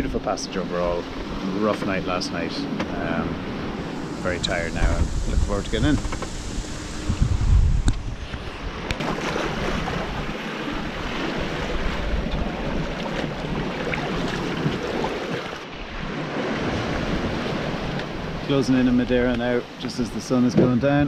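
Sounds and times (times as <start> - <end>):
water rushing along hull: 0.0 - 21.0
wind buffeting microphone: 1.0 - 19.5.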